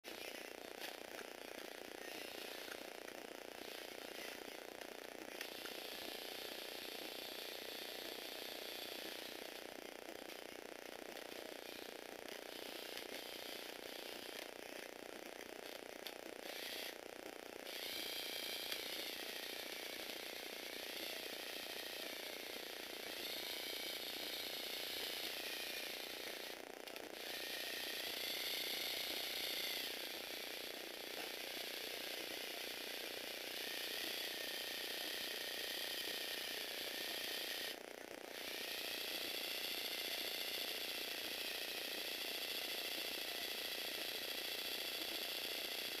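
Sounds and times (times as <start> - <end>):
electric motor whirring: 0.1 - 46.0.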